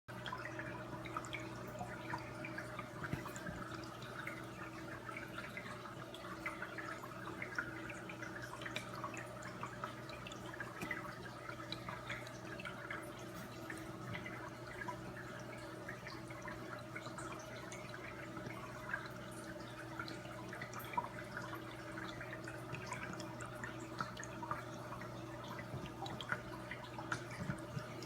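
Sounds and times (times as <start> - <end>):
drips splashing into water: 0.1 - 28.0
waterfall trickling: 0.1 - 28.0.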